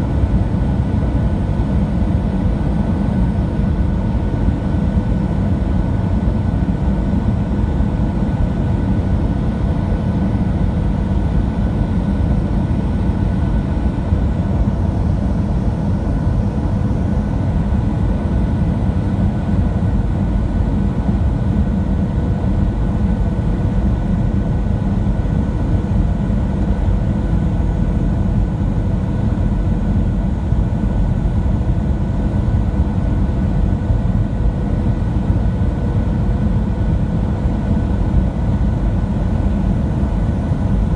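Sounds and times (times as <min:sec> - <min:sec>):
faint steady engine tones: 0:00.0 - 0:40.9.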